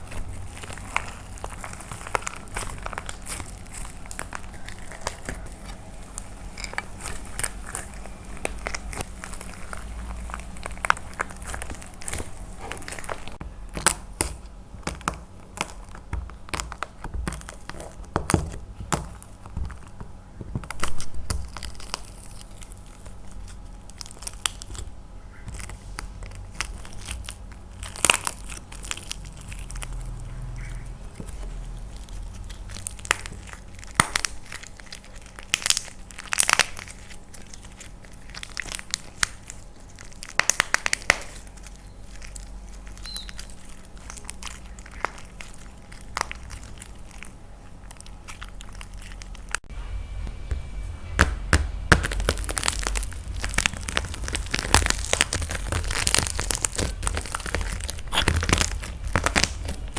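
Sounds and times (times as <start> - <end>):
clay cracking and crumbling: 0.0 - 49.7, 50.4 - 59.9.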